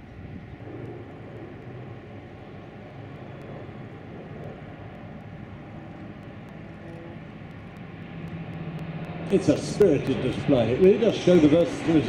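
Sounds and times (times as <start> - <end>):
turboprop aircraft drone: 0.0 - 12.0.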